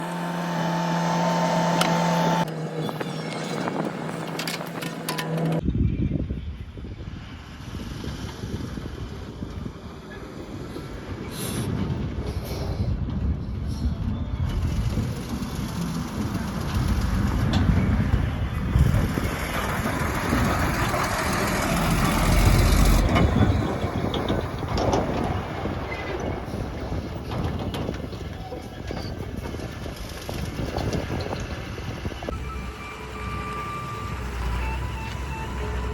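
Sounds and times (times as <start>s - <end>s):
diesel engine working under load: 0.0s - 5.6s, 7.6s - 35.9s.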